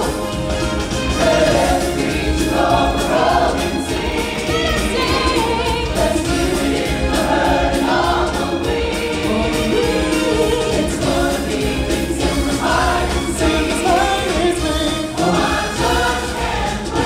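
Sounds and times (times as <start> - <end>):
choir singing over low beat: 0.0 - 17.0.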